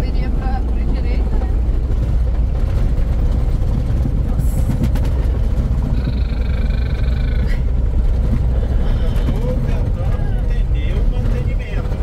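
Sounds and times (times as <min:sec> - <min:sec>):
truck engine rumble in cab: 0:00.0 - 0:12.0.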